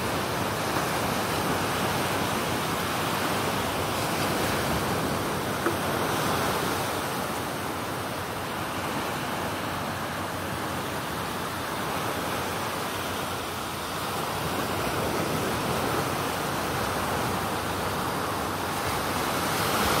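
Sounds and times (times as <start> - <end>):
surf breaking on beach: 0.0 - 20.0.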